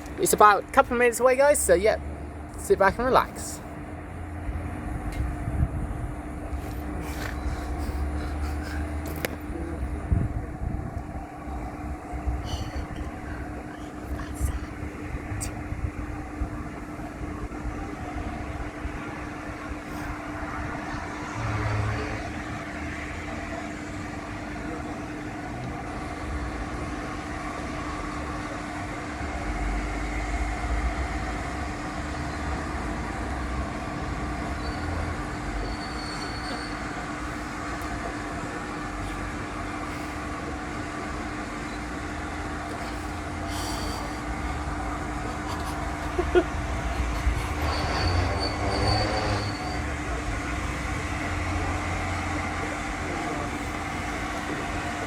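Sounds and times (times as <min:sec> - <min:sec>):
constant hum: 0:00.0 - 0:55.0
train rumbling on rails: 0:00.0 - 0:55.0.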